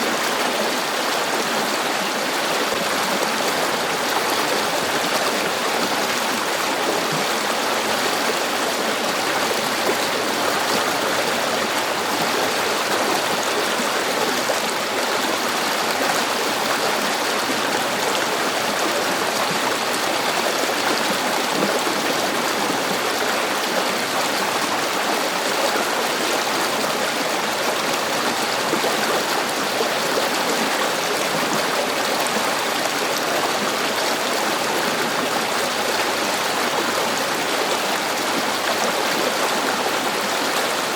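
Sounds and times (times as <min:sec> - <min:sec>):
river water rushing over stones: 0:00.0 - 0:40.9.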